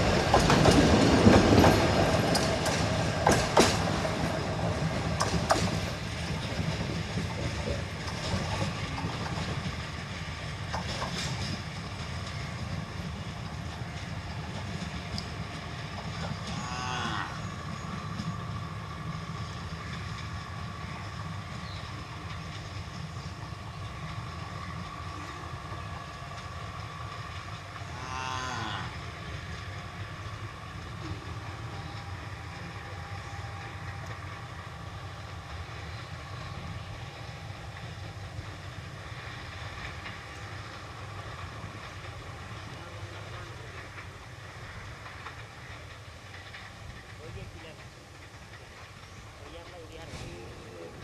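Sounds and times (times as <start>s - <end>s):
train rumbling on track: 0.0s - 51.0s.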